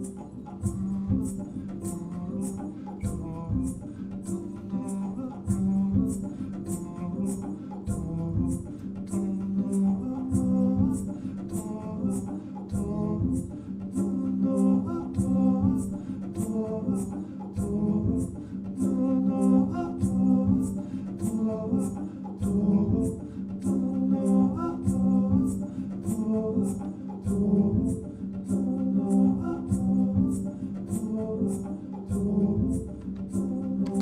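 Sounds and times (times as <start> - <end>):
double bass drone: 0.0 - 34.0
layered singing: 0.0 - 34.0.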